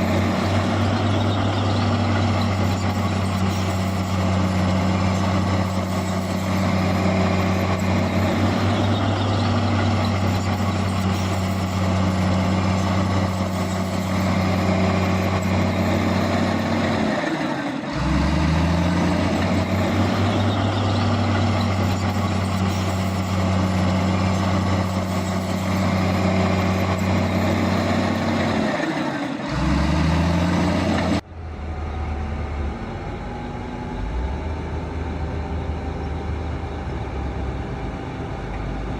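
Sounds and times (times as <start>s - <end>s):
heavy diesel engines running: 0.0s - 38.9s
quieter engine: 0.0s - 38.9s.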